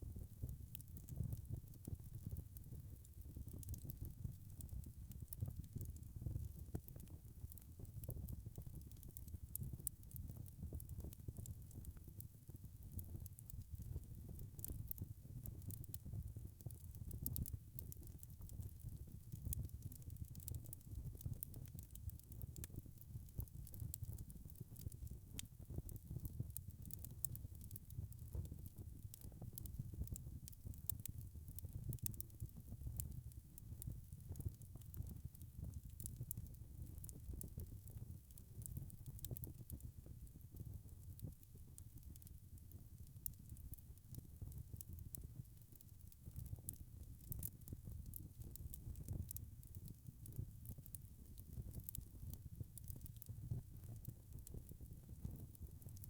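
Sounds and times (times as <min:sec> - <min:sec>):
fire rumbling in fireplace: 0:00.0 - 0:41.3, 0:43.2 - 0:56.0
burning logs crackling and popping: 0:00.0 - 0:56.0.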